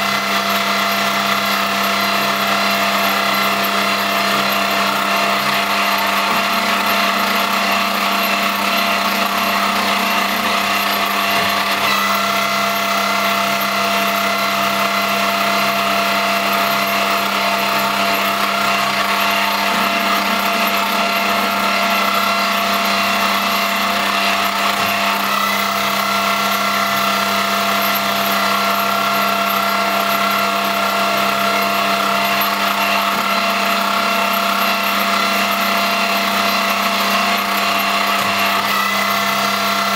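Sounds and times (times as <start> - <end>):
lathe machine whine: 0.0 - 39.9.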